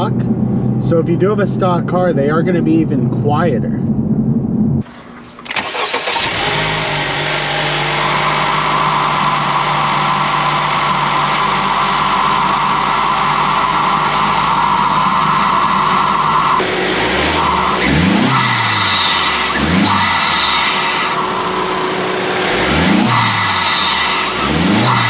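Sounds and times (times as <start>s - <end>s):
car engine drone: 0.0s - 25.0s.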